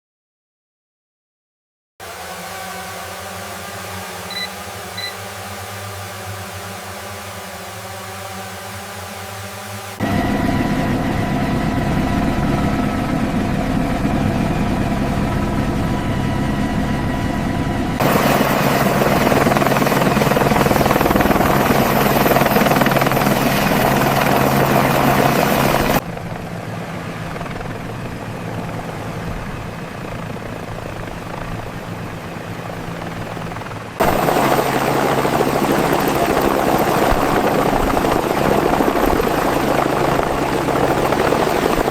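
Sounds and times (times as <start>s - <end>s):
helicopter engine and rotor: 2.0s - 41.9s.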